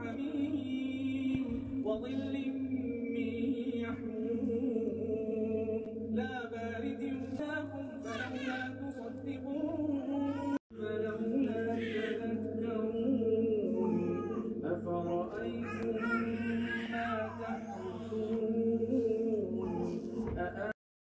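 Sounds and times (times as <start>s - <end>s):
person chanting melodically: 0.0s - 20.8s.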